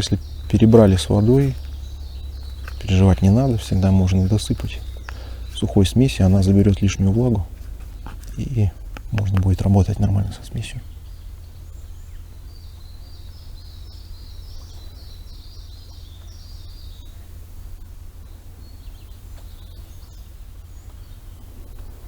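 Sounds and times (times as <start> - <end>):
songbird chirping: 0.0 - 22.0
steady low rumble: 0.0 - 22.0.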